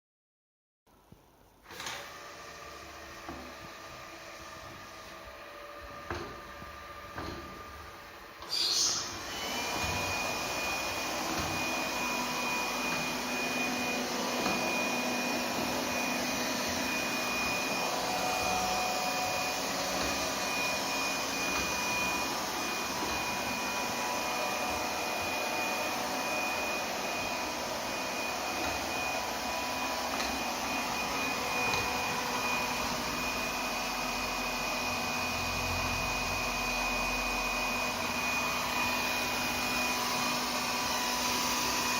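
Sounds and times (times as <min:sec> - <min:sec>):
robot vacuum cleaner running: 0:01.6 - 0:41.9.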